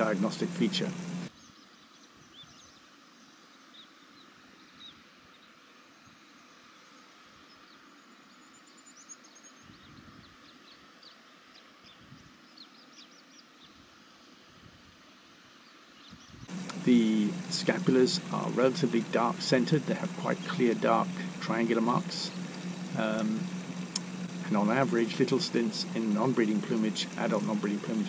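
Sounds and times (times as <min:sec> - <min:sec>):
low steady hiss: 0:00.0 - 0:28.0.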